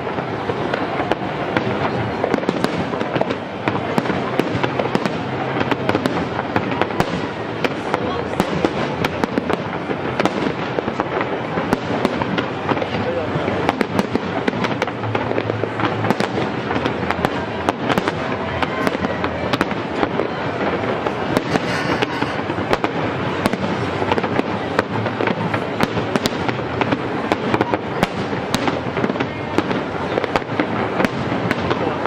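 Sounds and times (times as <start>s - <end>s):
fireworks crackling: 0.0s - 32.0s
fireworks cracks and bangs: 0.0s - 32.0s.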